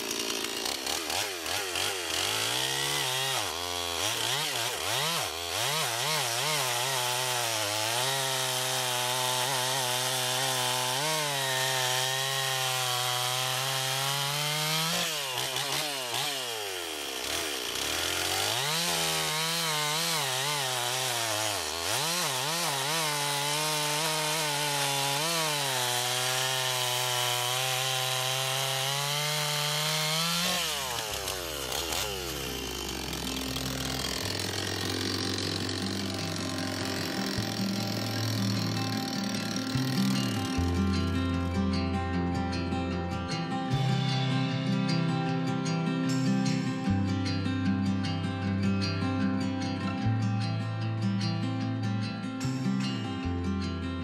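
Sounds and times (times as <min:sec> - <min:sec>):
chainsaw cutting through log: 0:00.0 - 0:47.1.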